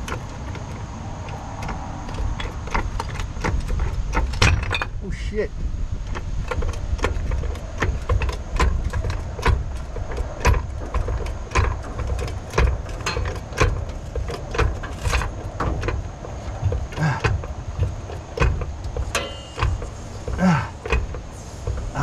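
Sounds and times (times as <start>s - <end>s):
floor jack metallic clicks: 0.0s - 5.0s, 6.0s - 22.0s.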